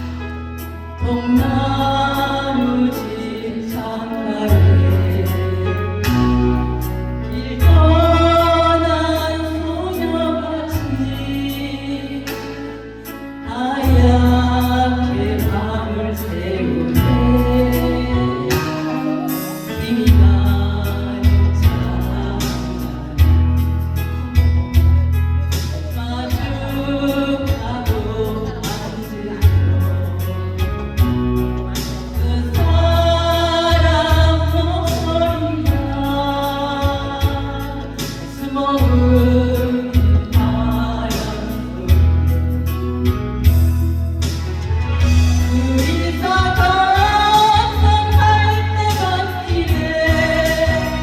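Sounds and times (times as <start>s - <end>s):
instrumental accompaniment with bass: 0.0s - 51.0s
person singing a slow ballad: 0.0s - 51.0s.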